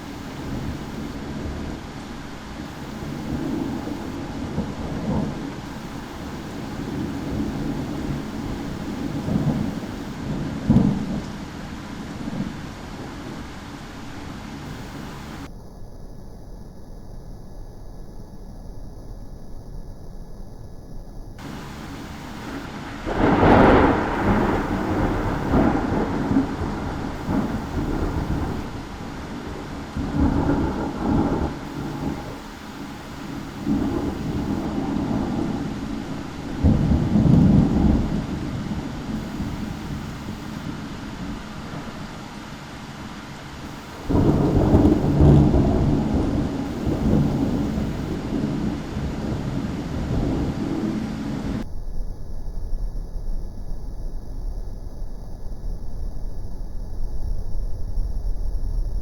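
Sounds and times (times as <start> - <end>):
steady rain: 0.0 - 15.5, 21.1 - 59.0
thunder rumbling: 0.0 - 59.0.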